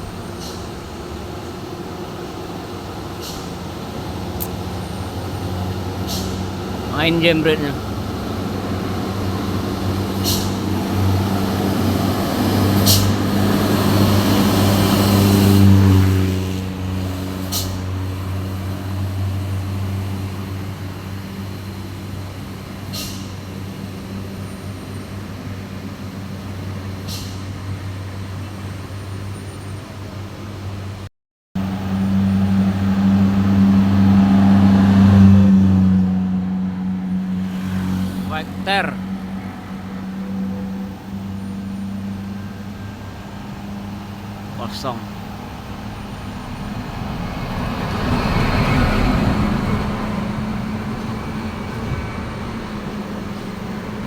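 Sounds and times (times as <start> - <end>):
diesel truck engines: 0.0 - 54.0.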